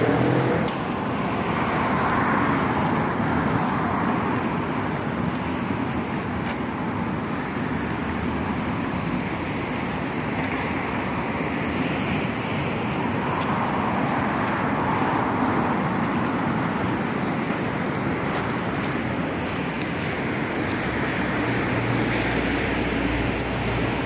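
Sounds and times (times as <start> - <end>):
road traffic hiss: 0.0 - 24.0.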